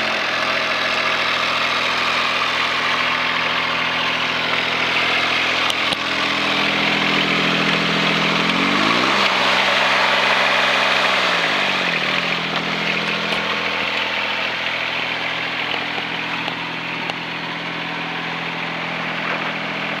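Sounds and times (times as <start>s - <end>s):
mini excavator engine running: 0.0s - 20.0s.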